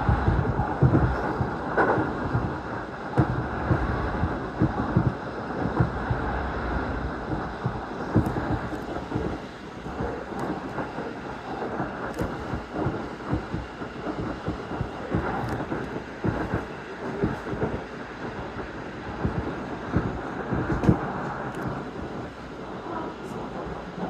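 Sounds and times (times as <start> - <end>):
low thuds from track: 0.0 - 22.3
train wheels rumbling on rails: 0.0 - 24.0.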